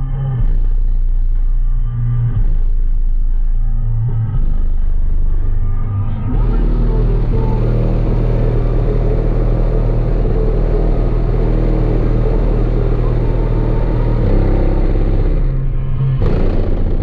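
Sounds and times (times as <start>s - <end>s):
loud heavy bass music: 0.0s - 17.0s.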